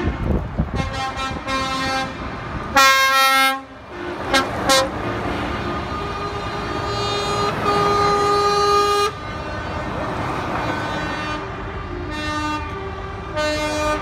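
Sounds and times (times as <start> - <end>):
truck engines rumbling: 0.0 - 14.0
truck horns: 0.0 - 14.0.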